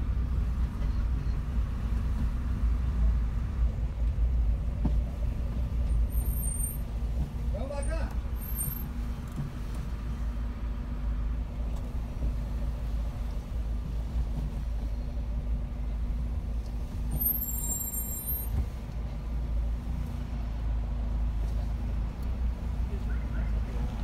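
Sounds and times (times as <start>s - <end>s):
car engine rumble from inside: 0.0s - 24.0s.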